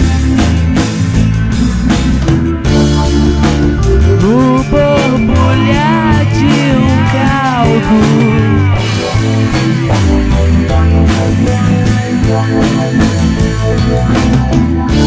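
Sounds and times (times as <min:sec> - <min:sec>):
drum kit: 0:00.0 - 0:15.0
electric guitar: 0:00.0 - 0:15.0
psychedelic rock music: 0:00.0 - 0:15.0.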